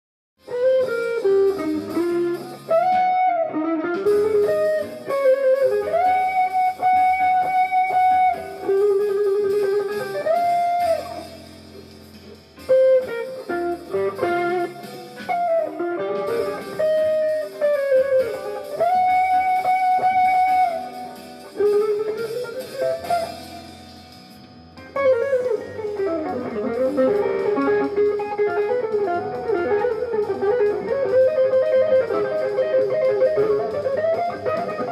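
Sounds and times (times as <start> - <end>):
jazz fusion guitar melody: 0.4 - 34.9
lower accompaniment: 0.5 - 34.9.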